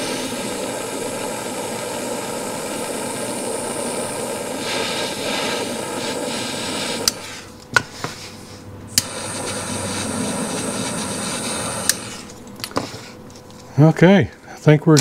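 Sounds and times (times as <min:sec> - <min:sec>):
torch flame hissing: 0:00.0 - 0:13.3.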